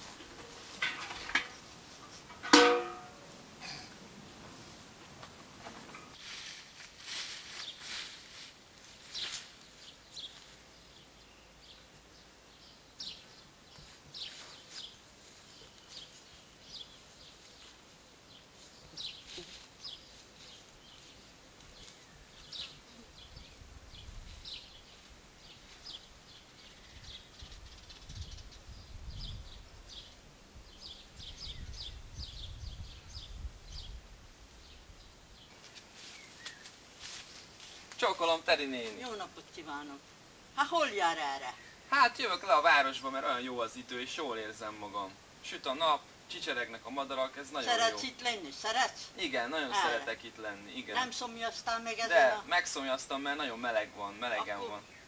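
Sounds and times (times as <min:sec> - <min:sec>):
small birds chirping: 0:07.4 - 0:34.0, 0:34.6 - 0:55.0.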